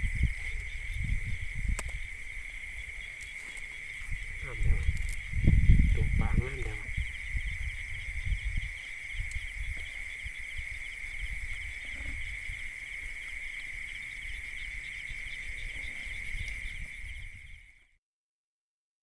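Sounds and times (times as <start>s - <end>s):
crickets trilling: 0.0s - 18.0s
insect pulsing call: 0.0s - 18.0s.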